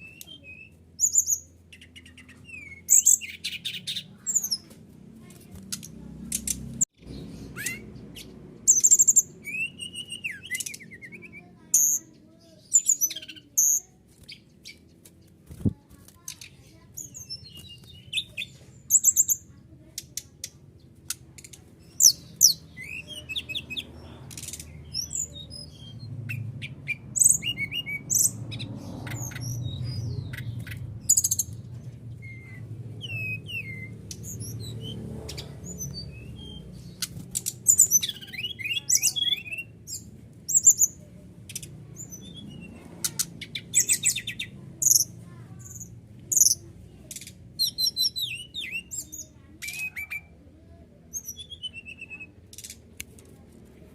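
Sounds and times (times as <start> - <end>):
bird chirps trills and whistles: 0.0 - 4.7, 5.7 - 19.5, 21.4 - 50.4, 51.0 - 52.4.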